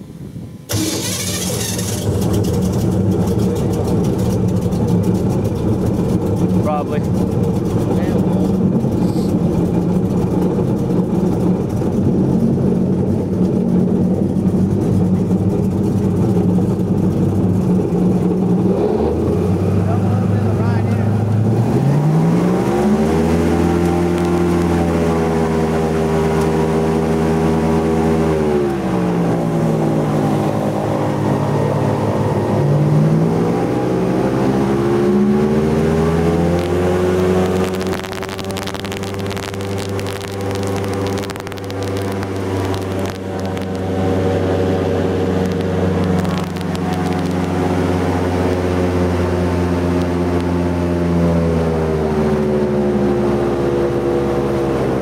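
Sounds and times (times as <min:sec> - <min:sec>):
airboat engine and propeller revving: 0:00.2 - 0:55.0.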